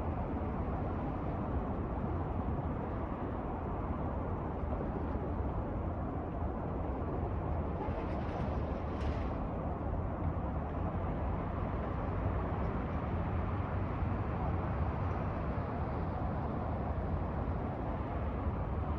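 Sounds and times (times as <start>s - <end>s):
train low rumble: 0.0s - 18.9s.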